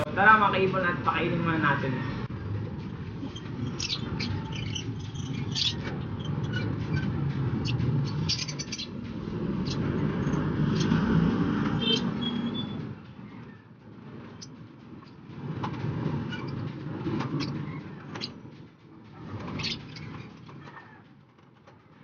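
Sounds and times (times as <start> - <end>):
birds chirping: 0.0 - 15.3, 16.2 - 21.1.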